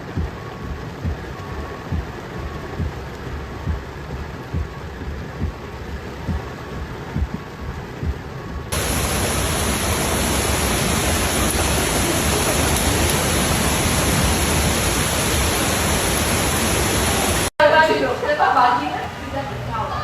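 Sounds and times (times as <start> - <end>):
low thuds: 0.0 - 17.5
floodwater rushing: 0.0 - 20.0
rain: 0.0 - 20.0.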